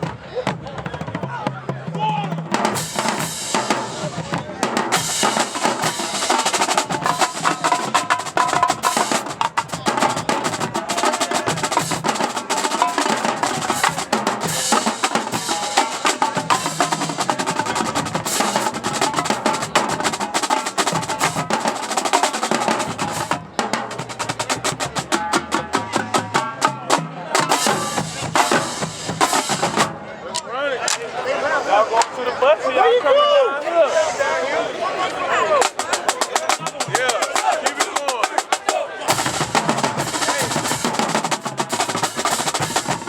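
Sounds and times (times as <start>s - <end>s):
snare and bass drum rolls: 0.0s - 30.0s, 35.6s - 43.0s
marching band playing: 0.0s - 31.0s, 31.9s - 43.0s.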